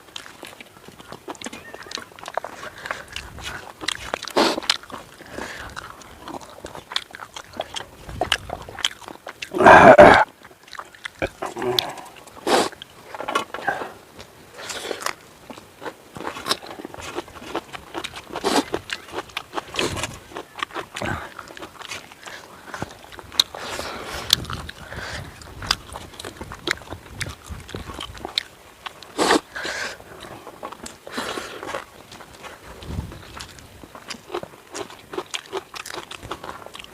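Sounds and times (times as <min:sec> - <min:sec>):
crunching and chewing food: 0:00.0 - 0:36.9.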